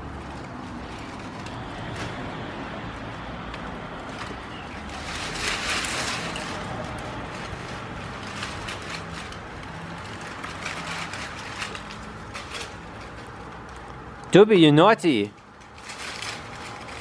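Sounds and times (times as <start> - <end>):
leaves rustling and tearing: 0.0 - 14.4, 15.1 - 17.0.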